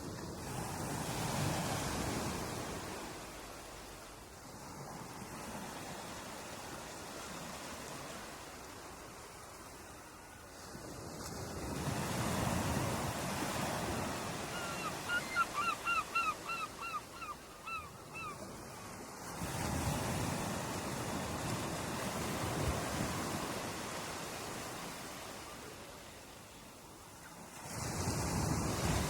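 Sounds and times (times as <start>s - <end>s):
ocean waves washing in: 0.0s - 16.6s, 17.4s - 29.0s.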